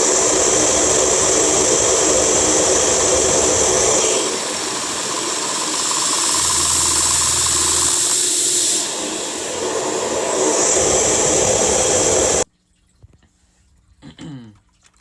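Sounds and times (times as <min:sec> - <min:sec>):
hiss of rushing air: 0:00.0 - 0:12.5.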